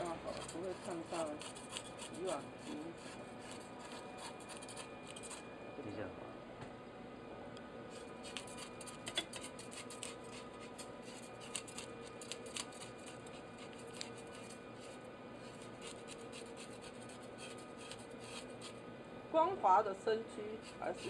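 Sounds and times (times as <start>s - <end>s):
knife scraping fish scales: 0.0s - 5.5s, 7.9s - 18.8s, 20.6s - 21.0s.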